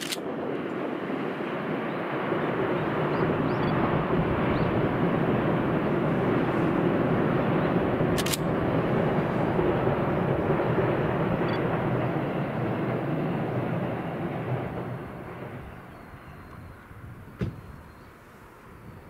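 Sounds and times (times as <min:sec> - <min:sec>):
train rumble and rail noise: 0:00.0 - 0:19.0.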